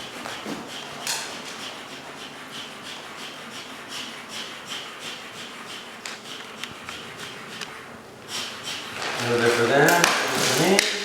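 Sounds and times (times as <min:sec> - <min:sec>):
hand tool rasping on wall: 0:00.0 - 0:10.9.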